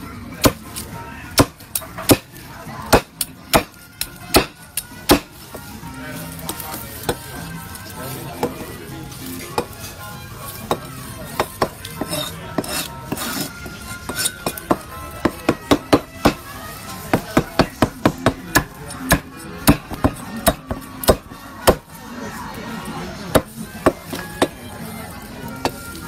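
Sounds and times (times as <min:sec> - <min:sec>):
cleaver chopping roast pork: 0:00.3 - 0:22.0, 0:23.2 - 0:26.0.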